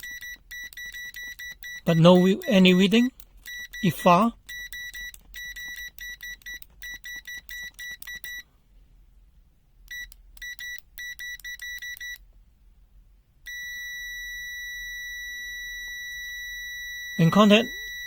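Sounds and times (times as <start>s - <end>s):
multimeter continuity beeping: 0.0s - 8.5s, 9.9s - 12.2s, 13.5s - 18.0s.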